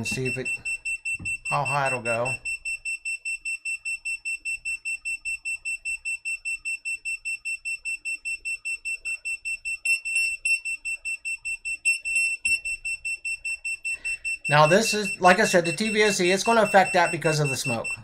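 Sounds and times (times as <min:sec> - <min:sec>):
rapid high-pitched alarm beeping: 0:00.0 - 0:18.0.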